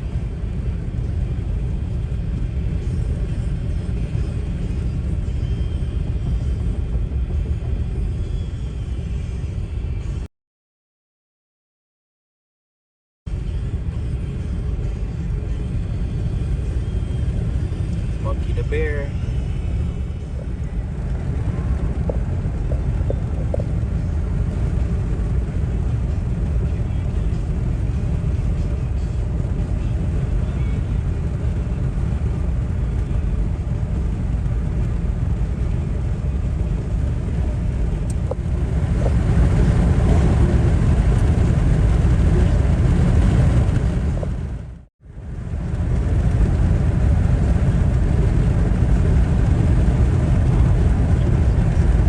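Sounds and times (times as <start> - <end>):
car driving on road: 0.0 - 10.3, 13.3 - 52.0.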